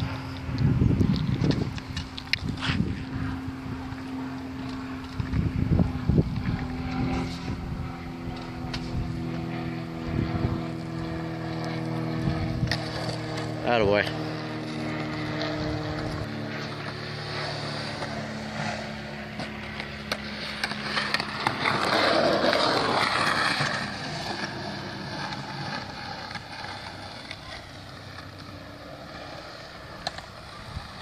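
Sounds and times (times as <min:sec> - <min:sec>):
skateboard wheels rolling on concrete: 0:00.0 - 0:31.0.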